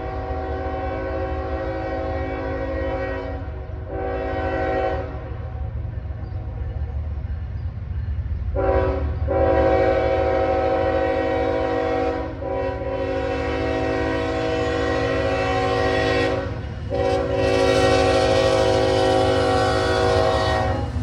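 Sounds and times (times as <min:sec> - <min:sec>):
locomotive air horn blasts: 0:00.0 - 0:05.4, 0:08.6 - 0:21.0.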